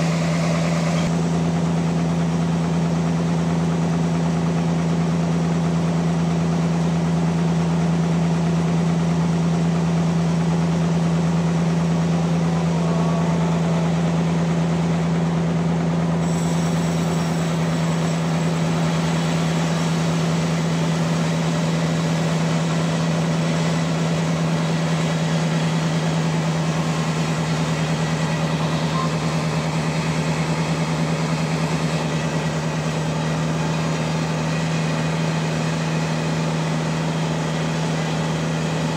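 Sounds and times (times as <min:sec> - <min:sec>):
sawmill humming: 0:00.0 - 0:38.9.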